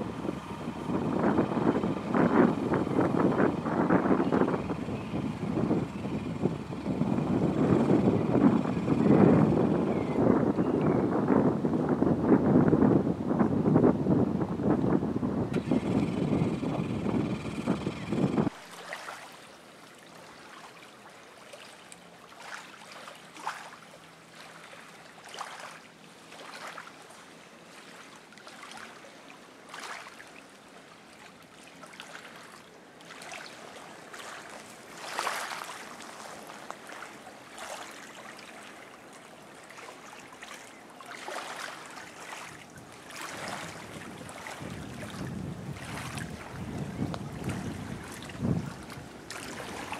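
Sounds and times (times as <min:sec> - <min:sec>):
small waves lapping: 0:00.0 - 0:10.2, 0:15.5 - 0:49.9.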